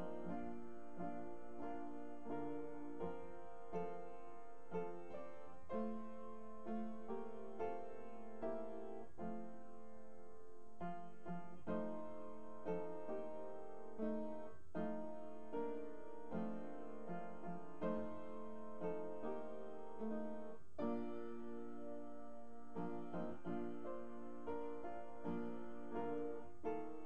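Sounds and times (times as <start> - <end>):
solo piano melody: 0.0 - 27.0.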